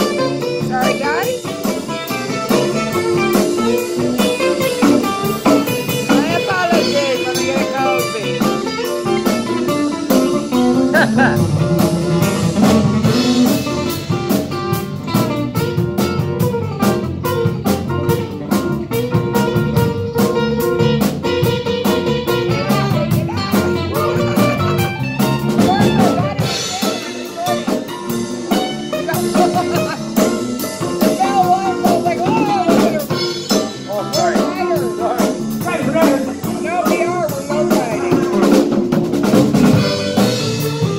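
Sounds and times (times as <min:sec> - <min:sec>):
acoustic and electric guitars: 0:00.0 - 0:40.9
drum kit beat: 0:00.0 - 0:40.9.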